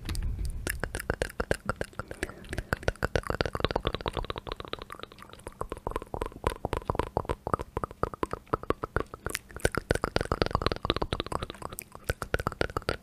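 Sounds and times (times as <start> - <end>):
wet mouth sounds: 0.0 - 13.0.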